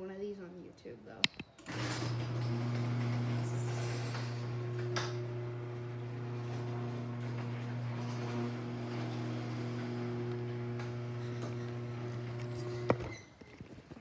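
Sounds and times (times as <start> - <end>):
garage door opener motor humming: 1.6 - 13.3.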